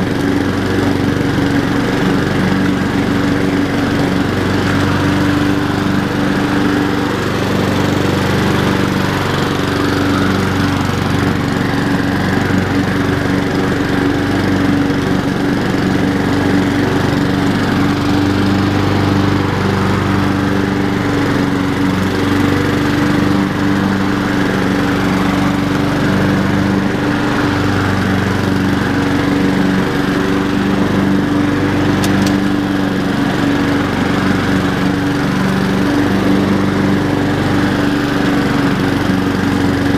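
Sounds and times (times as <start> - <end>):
lawnmower engine running: 0.0 - 39.9.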